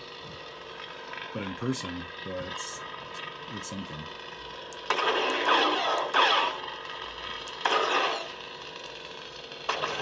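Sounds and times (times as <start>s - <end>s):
buzzing lightsaber hum: 0.0s - 10.0s.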